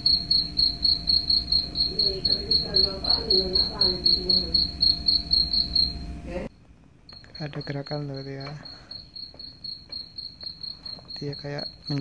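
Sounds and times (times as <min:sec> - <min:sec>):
crickets chirping through speaker: 0:00.0 - 0:06.5, 0:07.1 - 0:12.0.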